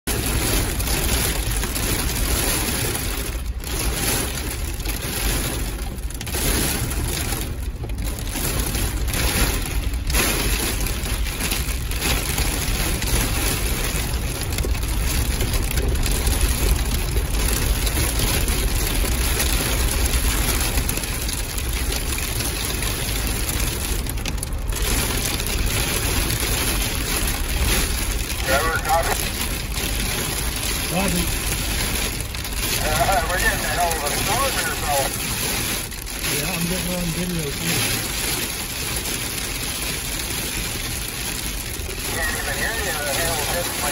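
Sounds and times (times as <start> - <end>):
heavy rain on windshield: 0.0 - 43.9
vehicle engine rumble: 0.0 - 43.9.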